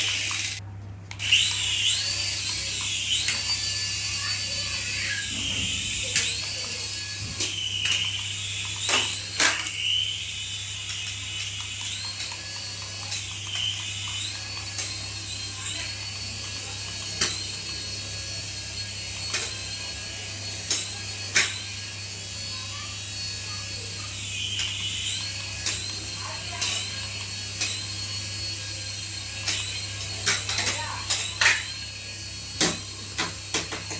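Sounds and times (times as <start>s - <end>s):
toy electric motor whining: 0.0s - 33.9s.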